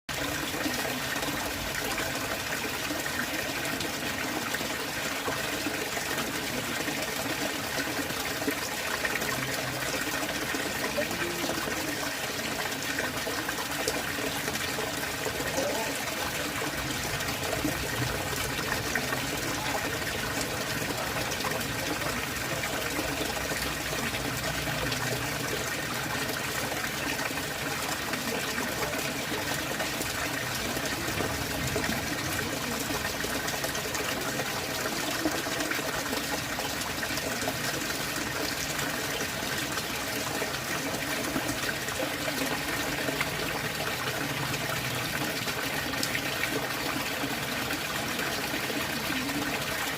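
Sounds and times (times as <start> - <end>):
pond water rushing: 0.1 - 49.9.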